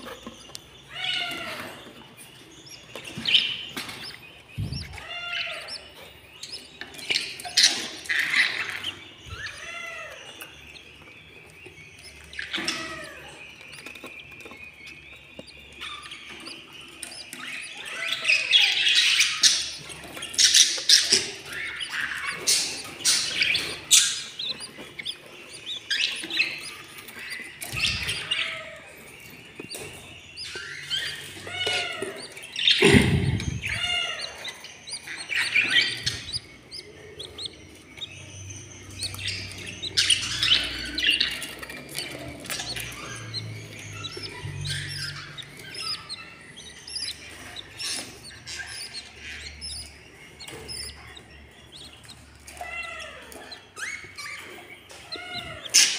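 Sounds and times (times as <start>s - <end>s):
budgerigars chirping and squawking: 0.0s - 55.9s.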